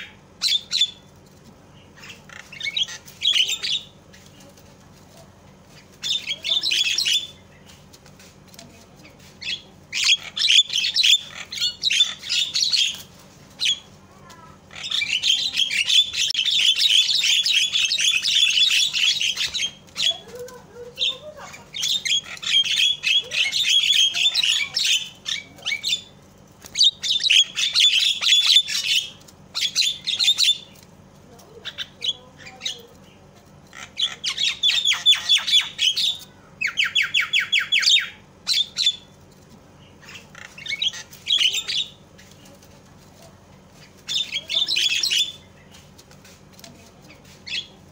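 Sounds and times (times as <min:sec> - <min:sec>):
bird harsh chattering calls: 0:00.0 - 0:04.6, 0:05.6 - 0:08.4, 0:09.1 - 0:30.9, 0:31.5 - 0:42.6, 0:43.6 - 0:47.9.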